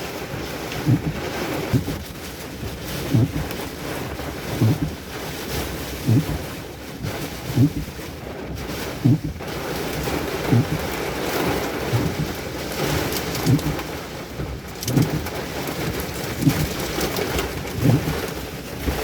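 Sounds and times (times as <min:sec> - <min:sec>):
rain: 0:00.0 - 0:19.0
wind: 0:00.0 - 0:19.0
wind buffeting microphone: 0:00.2 - 0:19.0.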